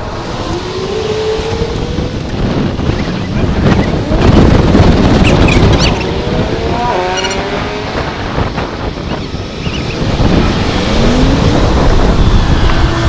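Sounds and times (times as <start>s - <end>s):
cars passing on road: 0.0s - 13.0s
wind rumble on microphone: 0.0s - 13.0s.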